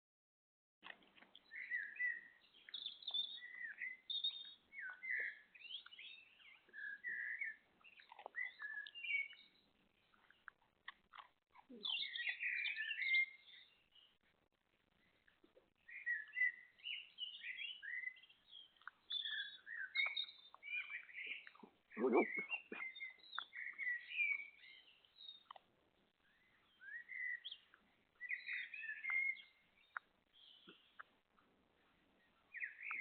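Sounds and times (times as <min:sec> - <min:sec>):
small birds chirping and twittering: 0:00.8 - 0:33.0.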